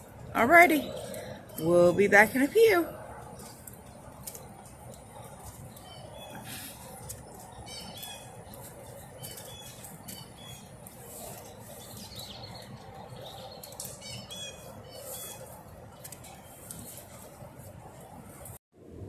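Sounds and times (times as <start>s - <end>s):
birds chirping: 0.0s - 17.6s
low background hum: 0.0s - 19.0s.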